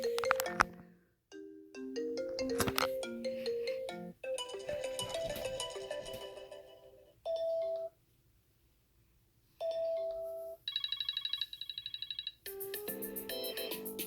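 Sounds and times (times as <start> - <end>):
melodic phone ringtone: 0.0 - 0.8, 1.4 - 7.9, 9.6 - 14.0.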